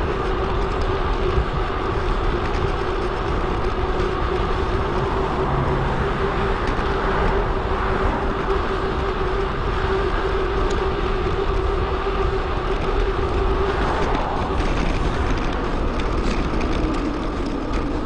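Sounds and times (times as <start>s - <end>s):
bike road noise: 0.0s - 18.0s
steady hum: 0.0s - 18.0s
wind noise: 0.0s - 18.0s.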